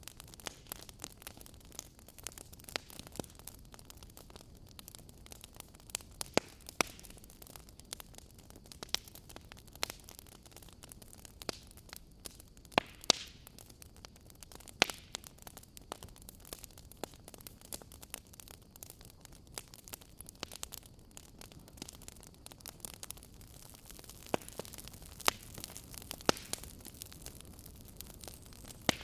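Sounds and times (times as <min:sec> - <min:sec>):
soft steady hiss: 0:00.0 - 0:29.0
wood fire crackling and popping: 0:00.0 - 0:29.0.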